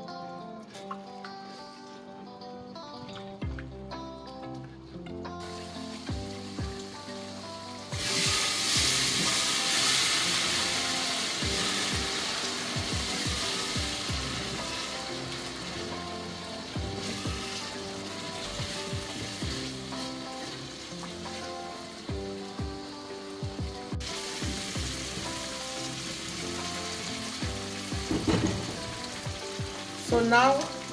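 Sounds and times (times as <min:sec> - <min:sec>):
sauce sizzling in a pot: 0:05.4 - 0:30.9.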